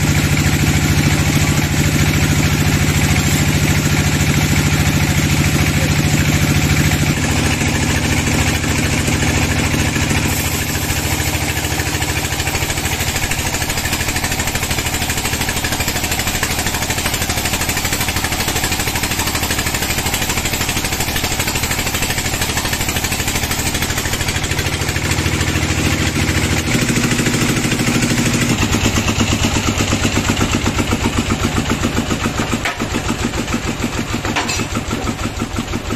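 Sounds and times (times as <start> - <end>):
band saw cutting wood: 0.0 - 35.7.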